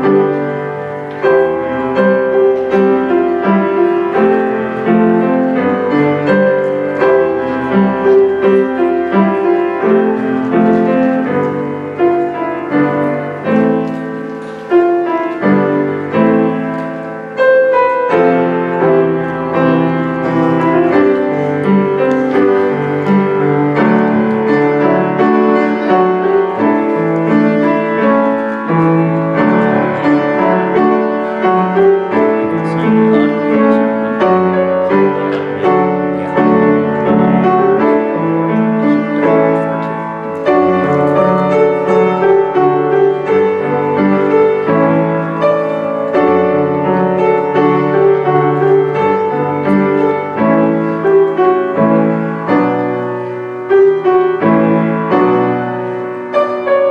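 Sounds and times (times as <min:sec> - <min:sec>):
solo piano piece: 0:00.0 - 0:56.9.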